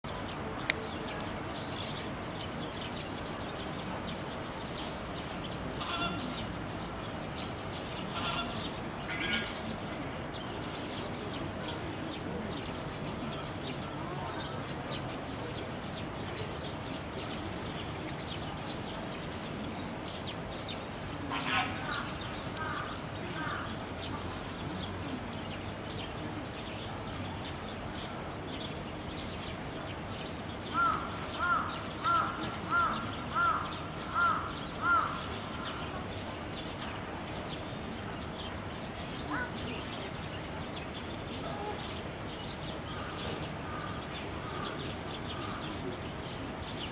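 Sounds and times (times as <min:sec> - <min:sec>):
faint distant voices: 0:00.0 - 0:46.9
steady outdoor hum: 0:00.1 - 0:46.9.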